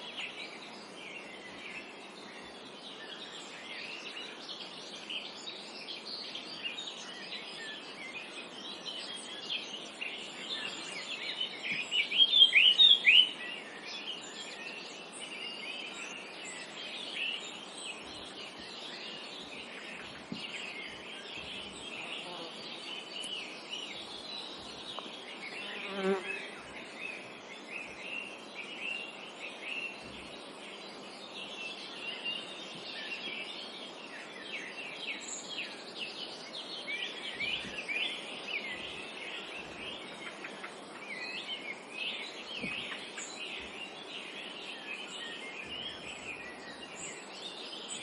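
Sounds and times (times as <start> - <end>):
forest background hiss: 0.0 - 48.0
songbirds chirping and singing: 0.0 - 48.0.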